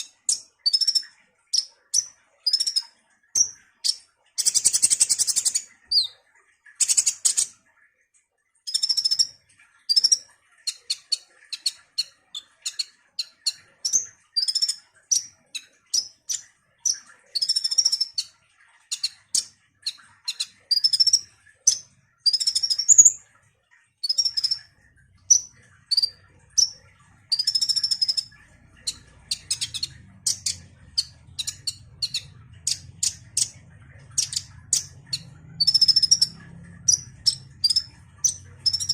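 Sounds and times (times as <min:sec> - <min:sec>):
bird chirping and twittering: 0:00.0 - 0:07.6, 0:08.7 - 0:23.3, 0:24.0 - 0:38.9
faint low hum: 0:00.0 - 0:38.9.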